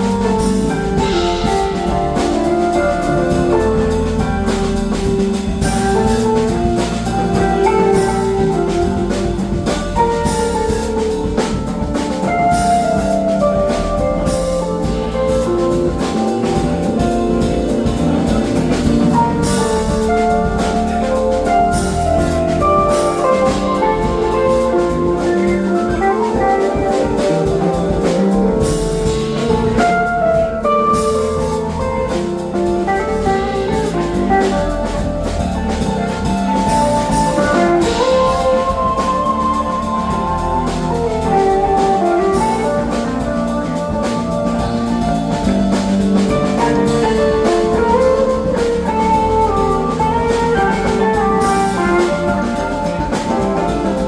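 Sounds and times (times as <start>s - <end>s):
drum kit steady beat: 0.0s - 54.0s
funk band playing: 0.0s - 54.0s.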